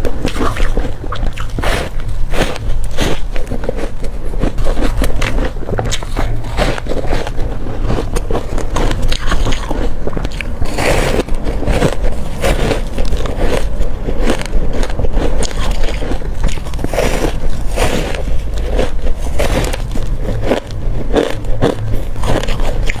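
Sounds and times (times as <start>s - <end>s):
chewing crushed ice: 0.0s - 23.0s.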